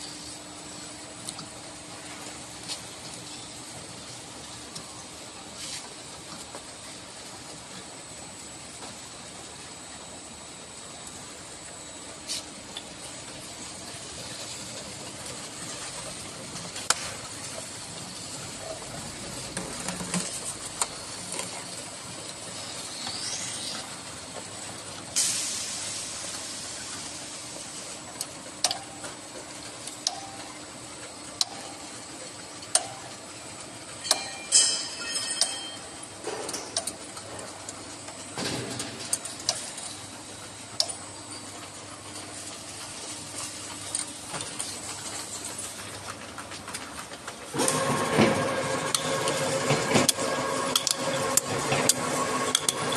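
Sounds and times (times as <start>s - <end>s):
bottling machinery running: 0.0s - 52.9s.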